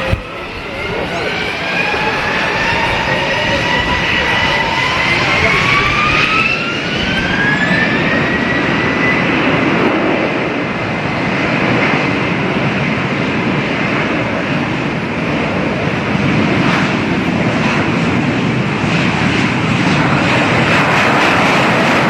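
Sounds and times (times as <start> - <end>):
jet engine roar: 0.0 - 22.0
jet engine whine rising: 0.0 - 22.0.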